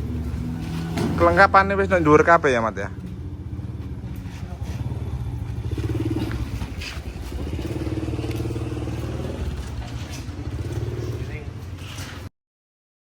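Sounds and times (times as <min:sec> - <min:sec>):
engine running at low speed: 0:00.0 - 0:12.3.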